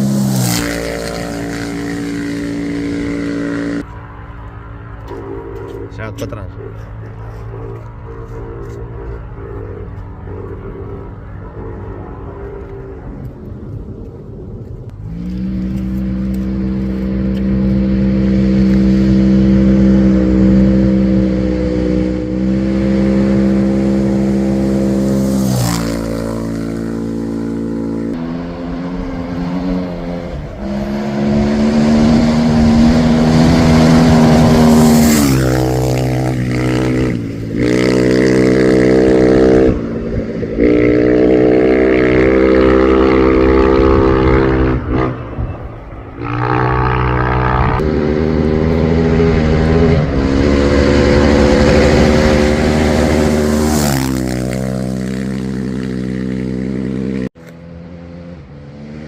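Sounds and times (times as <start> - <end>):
vehicle engine running hard: 0.0 - 59.0.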